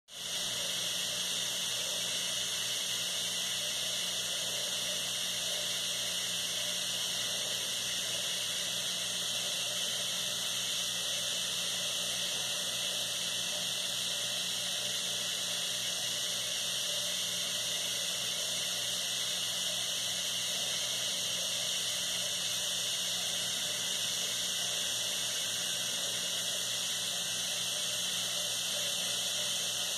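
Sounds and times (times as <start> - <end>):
high-pitched hiss: 0.1 - 29.9.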